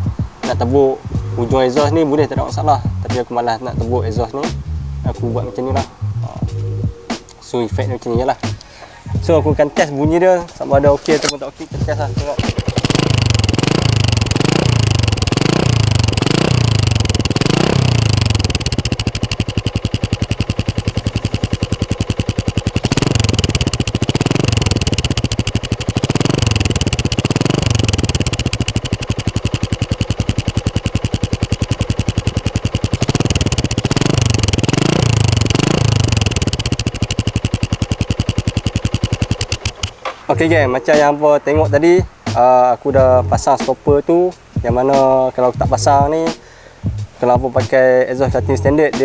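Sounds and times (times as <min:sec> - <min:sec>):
motorcycle engine idling and revving: 0:00.0 - 0:49.0.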